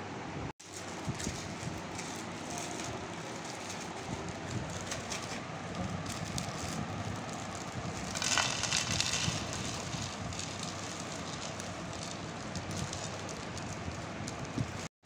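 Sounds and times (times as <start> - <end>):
steady background noise: 0.0 - 14.9
plastic packet crinkling: 0.7 - 14.7.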